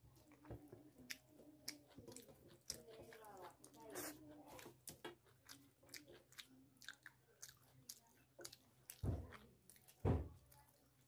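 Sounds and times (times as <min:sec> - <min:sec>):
wet chewing and lip-smacking: 0:00.2 - 0:11.0.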